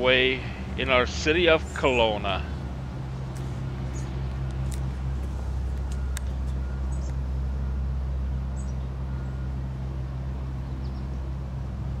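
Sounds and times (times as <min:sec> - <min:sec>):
creek running over riffles: 0:00.0 - 0:12.0
steady low rumble: 0:00.0 - 0:12.0.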